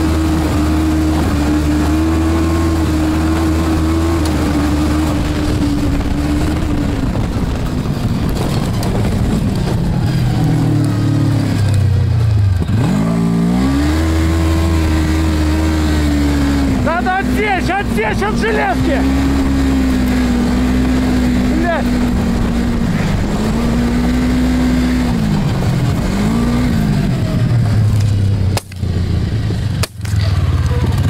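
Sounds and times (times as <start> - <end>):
snowmobile engine revving: 0.0 - 31.0.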